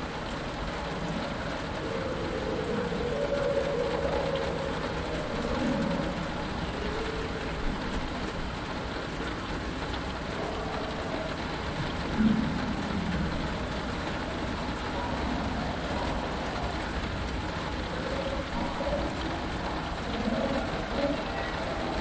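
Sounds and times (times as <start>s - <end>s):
rain on a canopy: 0.0s - 22.0s
low creature calls: 0.7s - 22.0s.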